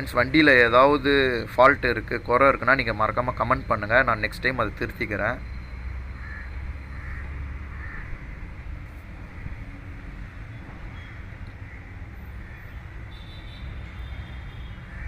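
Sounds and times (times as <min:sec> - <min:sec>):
low rumble of vehicle engines: 0:00.0 - 0:15.0.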